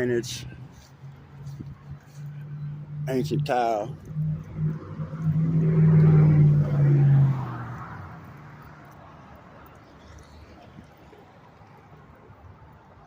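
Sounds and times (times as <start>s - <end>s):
vehicle engine hum driving past: 0.0s - 12.6s
road noise: 0.0s - 13.0s.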